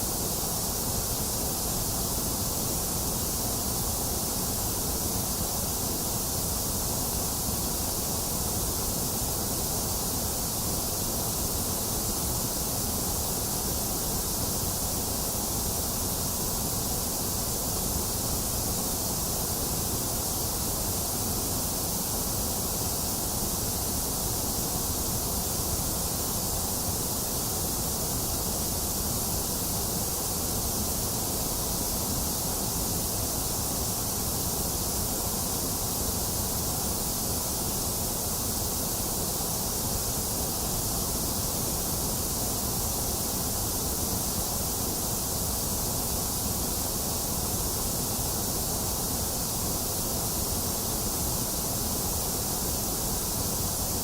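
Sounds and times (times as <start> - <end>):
electronic white noise hiss: 0.0 - 54.0.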